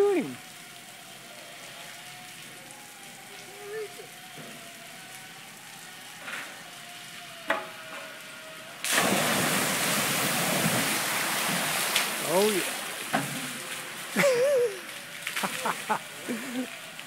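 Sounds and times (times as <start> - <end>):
water pouring onto pavement: 0.0 - 17.0.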